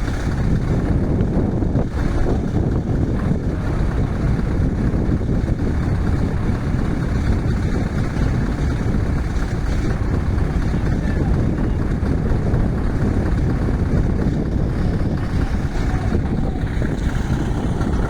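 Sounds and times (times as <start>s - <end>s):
truck engine rumbling: 0.0s - 18.0s.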